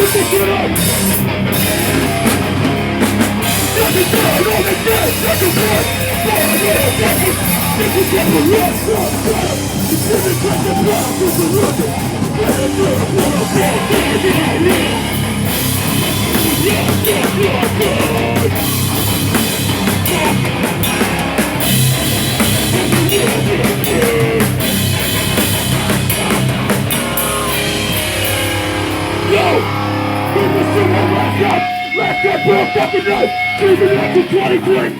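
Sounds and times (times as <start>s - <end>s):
drum kit with cymbals: 0.0s - 31.0s
distorted electric guitars: 0.0s - 34.9s
rock band playing loudly: 0.0s - 34.9s.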